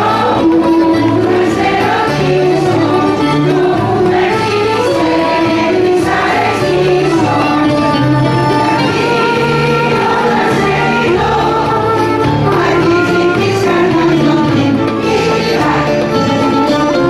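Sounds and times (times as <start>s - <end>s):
bouzouki: 0.0s - 17.0s
choir singing folk song: 0.0s - 17.0s
keyboard: 0.0s - 17.0s.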